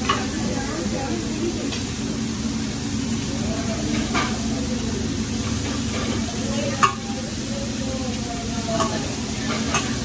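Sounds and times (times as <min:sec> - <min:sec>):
chicken sizzling on a griddle: 0:00.0 - 0:10.0.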